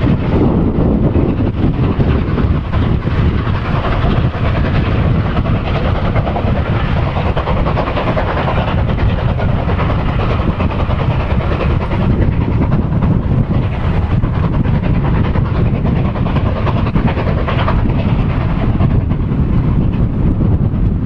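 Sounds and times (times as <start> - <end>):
steam locomotive passing: 0.0 - 21.0.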